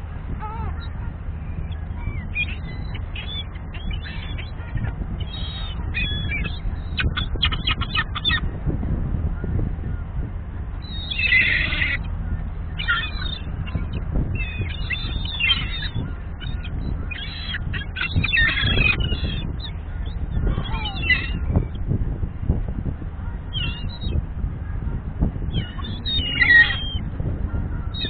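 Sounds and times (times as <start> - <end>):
gulls squawking: 0.0 - 8.6, 9.3 - 28.0
steady low rumble: 0.0 - 28.0.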